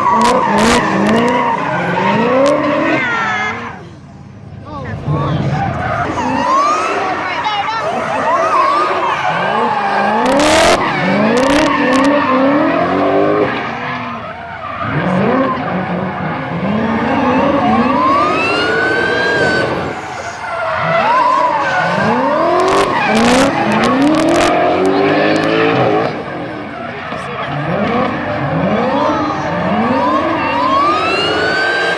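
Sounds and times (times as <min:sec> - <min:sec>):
car engines revving: 0:00.0 - 0:31.9
tyres skidding: 0:00.0 - 0:31.9.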